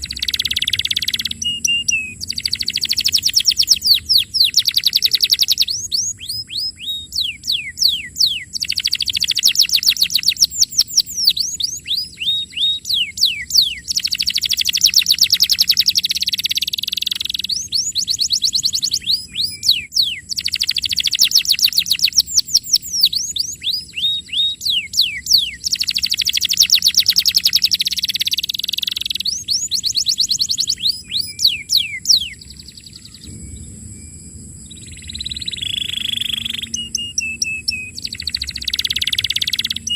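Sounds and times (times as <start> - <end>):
canary singing: 0.0 - 33.4, 34.8 - 39.9.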